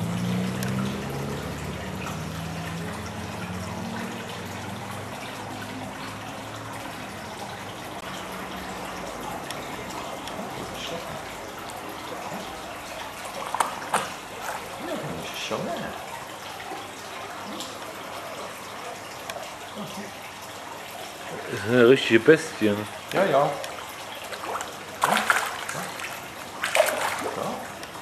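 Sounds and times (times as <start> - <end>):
pond water splashing and trickling: 0.0 - 28.0.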